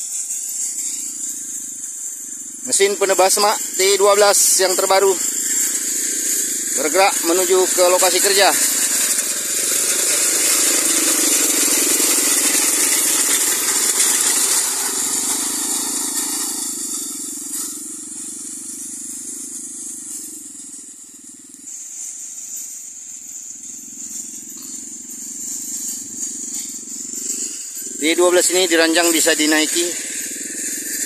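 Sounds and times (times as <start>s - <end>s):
small petrol engine running: 0.0s - 31.0s.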